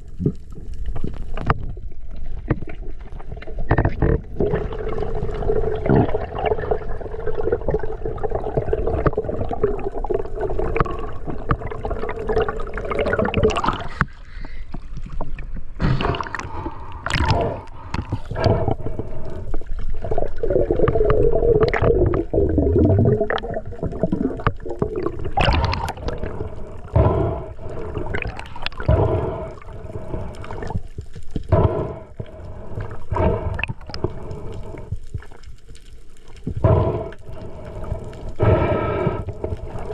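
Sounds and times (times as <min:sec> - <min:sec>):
muffled underwater gurgling: 0:03.4 - 0:14.6, 0:15.8 - 0:35.3, 0:36.4 - 0:39.9.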